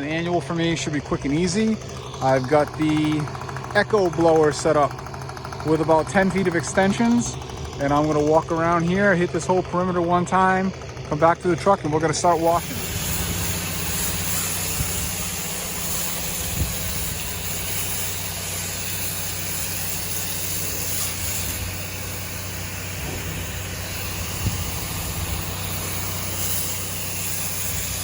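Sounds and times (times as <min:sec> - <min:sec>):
leaf blower running: 0:00.0 - 0:28.0.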